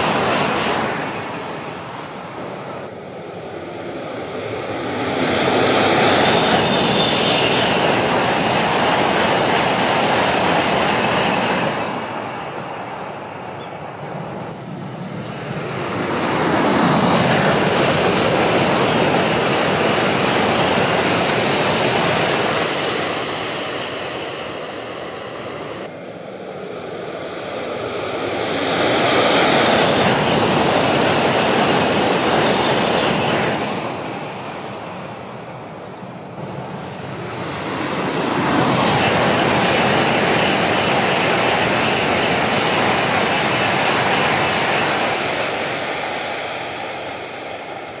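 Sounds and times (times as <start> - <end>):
high-speed train rushing past: 0.0 - 48.0.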